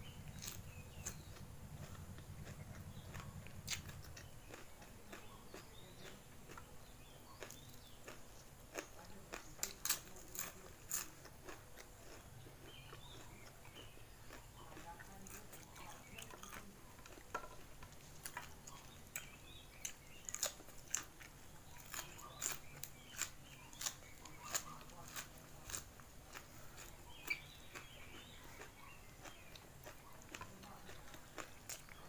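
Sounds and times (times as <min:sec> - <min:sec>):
person chewing crunchy food: 0:00.0 - 0:32.0.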